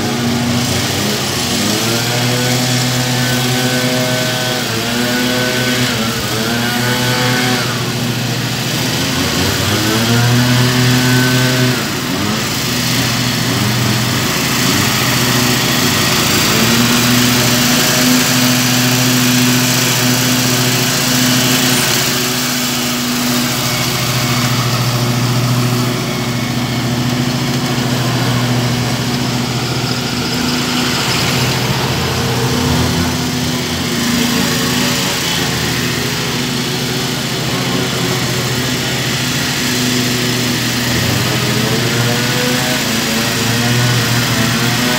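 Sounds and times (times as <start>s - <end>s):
mower engine running: 0.0s - 44.9s.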